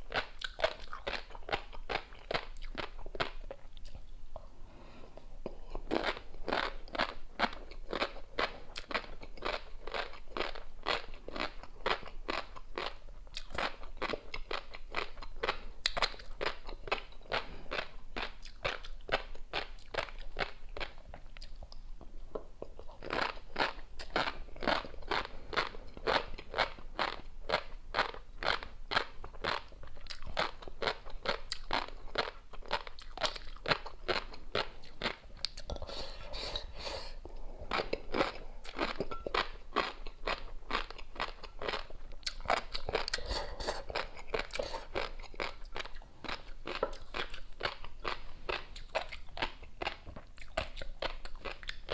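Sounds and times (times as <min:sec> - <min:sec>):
chewing crunchy fish roe: 0:00.0 - 0:04.0, 0:05.6 - 0:21.7, 0:22.6 - 0:36.8, 0:37.7 - 0:51.9.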